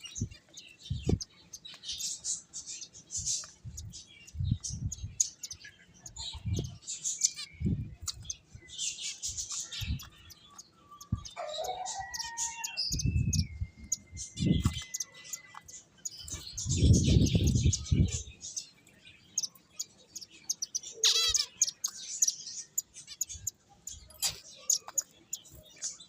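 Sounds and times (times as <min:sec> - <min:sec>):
finches chirping and tweeting: 0:00.0 - 0:26.0.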